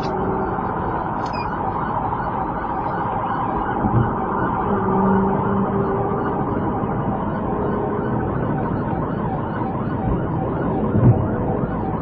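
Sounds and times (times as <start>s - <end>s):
car and road noise: 0.0s - 12.0s
police siren yelping: 0.0s - 12.0s.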